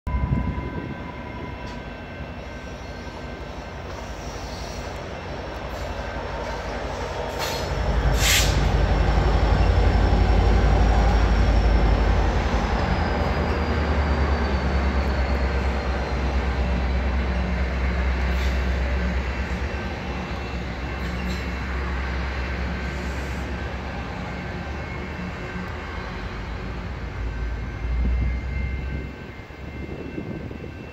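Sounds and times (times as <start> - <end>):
locomotive engine rumble: 0.2 - 30.8
coaches rolling on rails: 0.2 - 30.9
high wheel squeal: 0.8 - 30.9.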